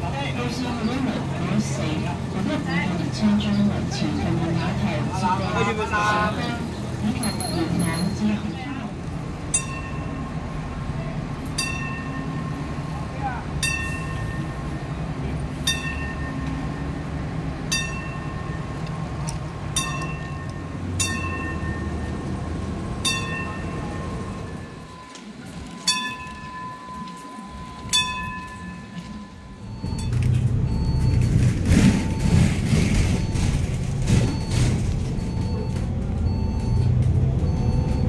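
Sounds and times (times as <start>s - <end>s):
tram rolling with low rumble: 0.0s - 38.0s.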